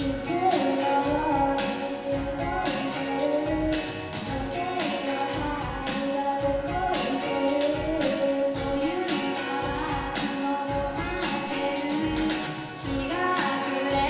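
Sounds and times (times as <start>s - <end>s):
group singing a pop song: 0.0s - 14.0s
musical accompaniment with beat: 0.0s - 14.0s.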